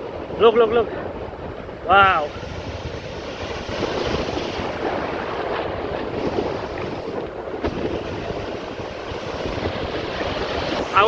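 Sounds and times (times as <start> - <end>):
waves breaking in surf: 0.0 - 11.0
wind buffeting microphone: 0.0 - 11.0.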